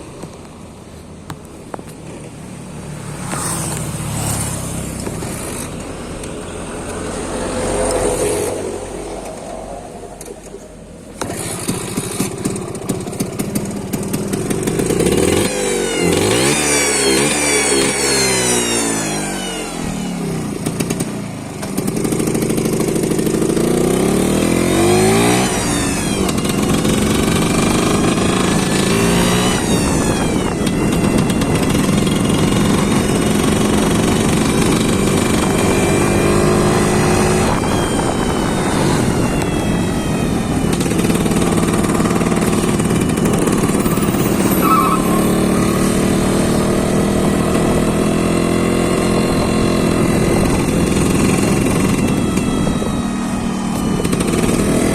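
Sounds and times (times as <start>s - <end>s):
engine revving: 2.7s - 54.9s.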